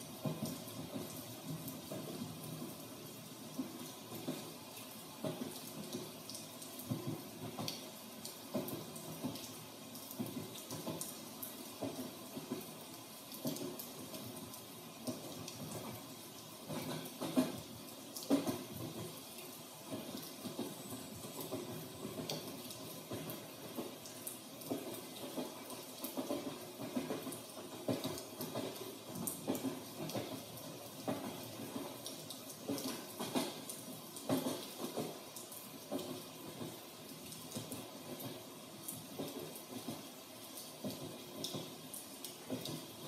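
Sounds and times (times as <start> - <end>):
rain dripping and splashing: 0.0 - 43.0.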